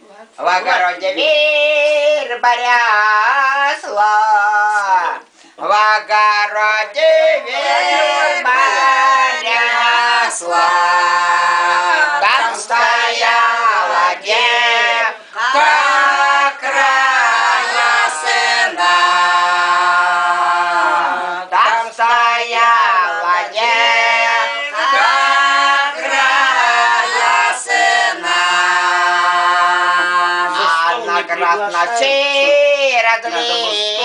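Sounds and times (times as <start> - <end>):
women singing unaccompanied: 0.4 - 34.0.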